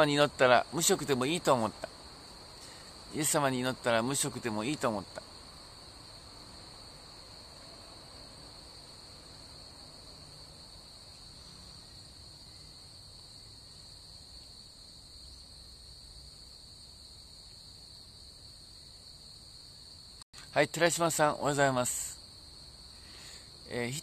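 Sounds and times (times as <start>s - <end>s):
low hiss: 0.0s - 24.0s.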